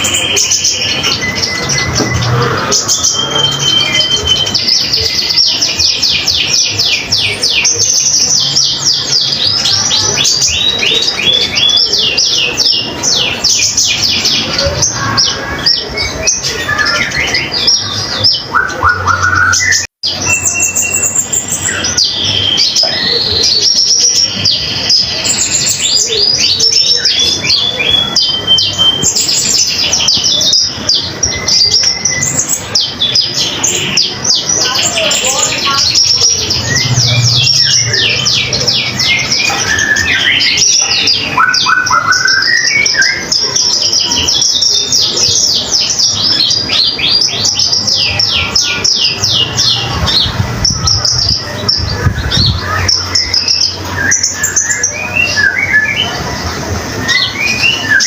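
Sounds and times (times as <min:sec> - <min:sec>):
songbird singing high chirps: 0:00.0 - 0:56.2.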